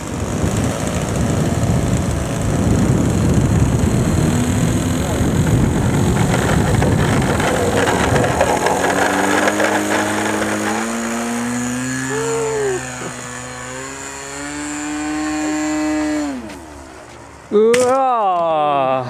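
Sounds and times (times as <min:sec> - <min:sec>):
model airplane engine at full throttle: 0:00.0 - 0:17.0.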